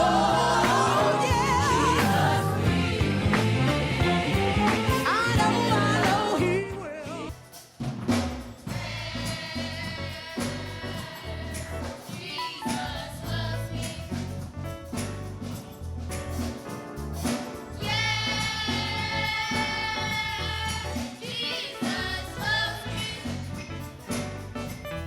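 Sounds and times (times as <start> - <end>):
choir singing gospel music: 0.0 - 7.7, 8.5 - 14.7, 16.8 - 25.0
drum kit: 0.0 - 25.0.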